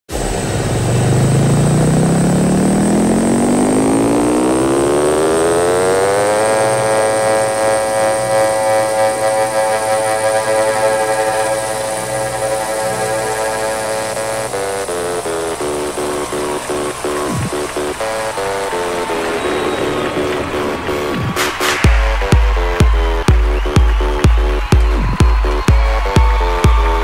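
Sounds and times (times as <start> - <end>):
buzzy synth riser: 0.1 - 27.0.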